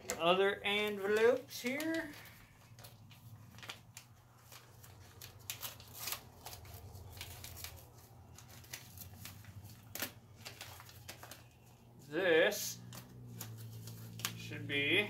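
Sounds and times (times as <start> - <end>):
paper and plastic crinkling: 0.0 - 15.0
padded envelope being torn open: 1.0 - 11.7, 12.8 - 14.5.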